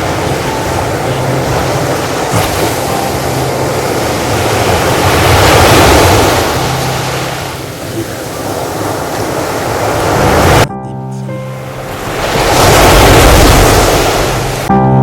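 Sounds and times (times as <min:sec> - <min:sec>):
ocean waves washing on shore: 0:00.0 - 0:10.7, 0:11.6 - 0:14.7.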